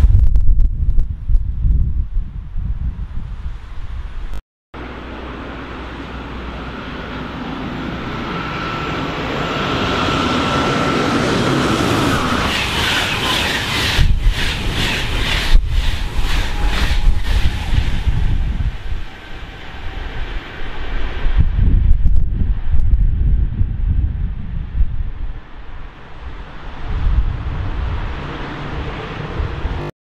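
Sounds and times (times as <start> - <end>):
train passing at speed: 4.8 - 29.9.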